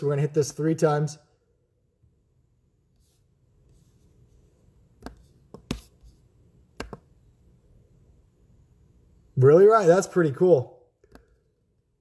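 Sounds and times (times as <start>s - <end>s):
faint low room noise: 0.0s - 12.0s.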